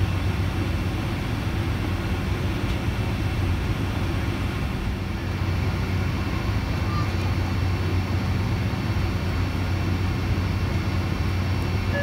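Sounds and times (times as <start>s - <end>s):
aircraft engines low rumble: 0.0s - 12.0s.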